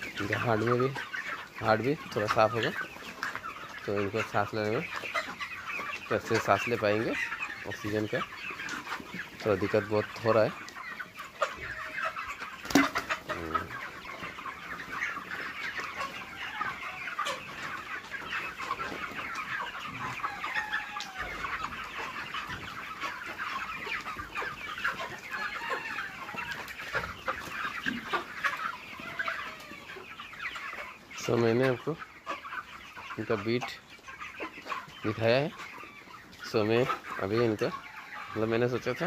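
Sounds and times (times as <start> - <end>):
chickens cheeping and clucking: 0.0 - 39.0.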